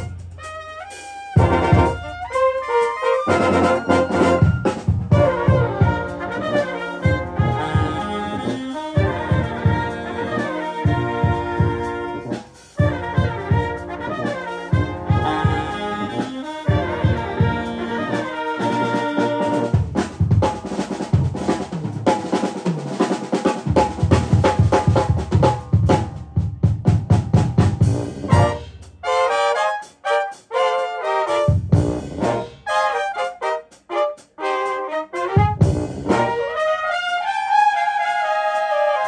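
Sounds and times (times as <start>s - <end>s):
drum kit: 0.0s - 38.8s
brass instruments playing: 0.0s - 39.0s.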